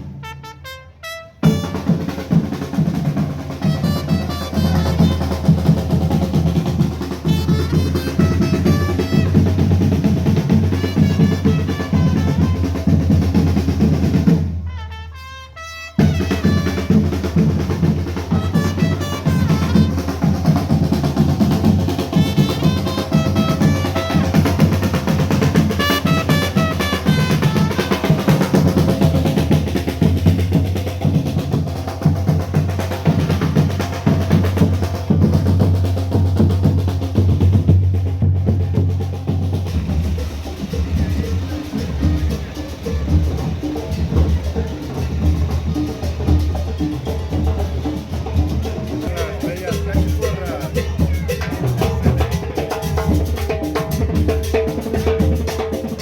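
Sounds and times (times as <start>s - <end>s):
marching band melody: 0.0s - 56.0s
snare and bass drums: 0.0s - 56.0s.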